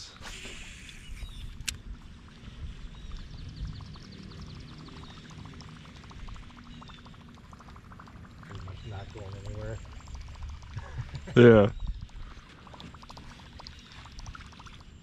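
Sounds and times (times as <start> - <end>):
creek water gurgling: 0.3 - 15.0.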